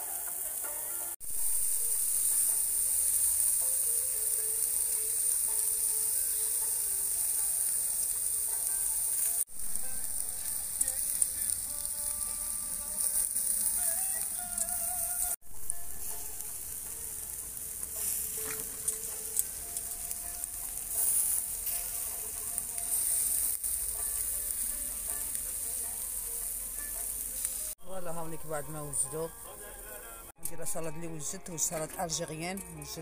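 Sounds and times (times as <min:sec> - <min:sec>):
patties sizzling on charcoal grill: 0:00.0 - 0:33.0.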